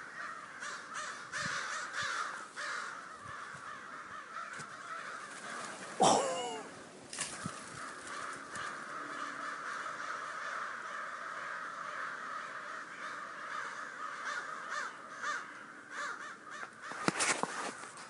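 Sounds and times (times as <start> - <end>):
crows cawing: 0.0 - 17.9.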